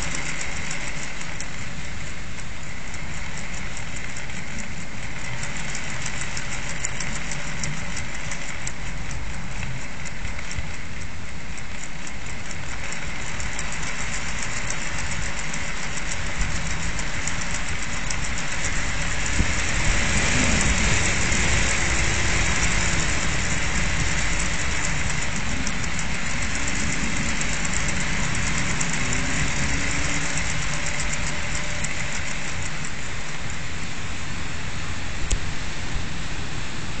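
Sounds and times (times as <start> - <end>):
toy propeller whirring and ticking: 0.0 - 35.5
wind gusting at a window: 0.0 - 37.0.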